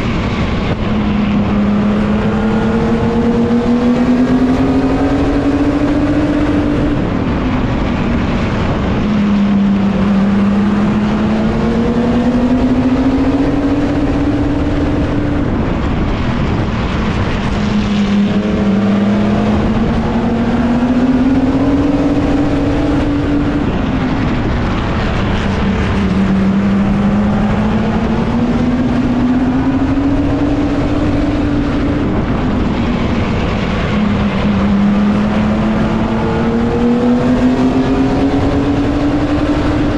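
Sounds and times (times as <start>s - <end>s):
racing truck engine revving: 0.0s - 39.9s.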